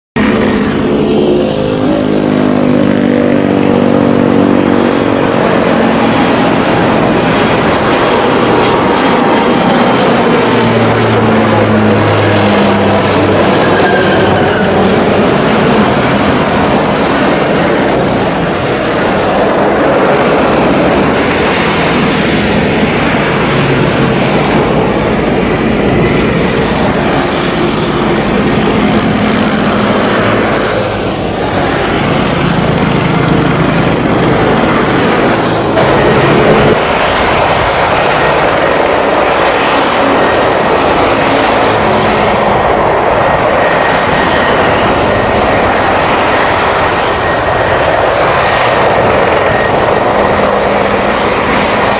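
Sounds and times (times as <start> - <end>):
turboprop plane taking off: 0.2 - 51.9.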